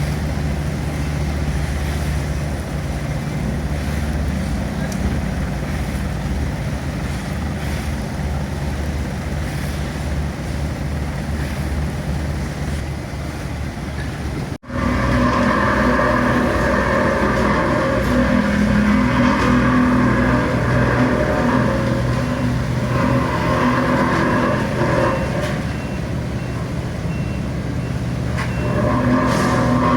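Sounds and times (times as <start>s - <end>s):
higher-pitched engine running: 0.0s - 10.0s, 14.6s - 29.9s
engines running: 0.0s - 29.9s.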